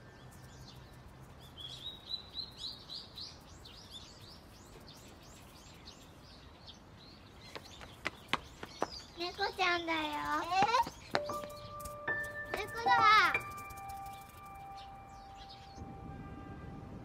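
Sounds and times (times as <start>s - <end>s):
small bird chirping: 0.0s - 15.9s
faint outdoor background noise: 0.0s - 17.0s.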